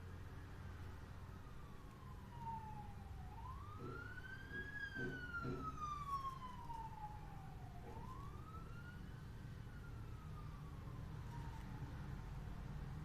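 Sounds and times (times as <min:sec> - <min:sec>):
siren wailing: 0:01.4 - 0:12.0.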